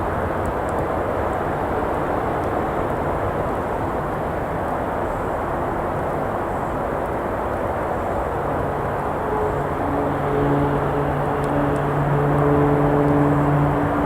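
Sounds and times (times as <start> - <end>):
traffic rumble: 0.0 - 14.0
vehicle engine hum: 0.0 - 14.0.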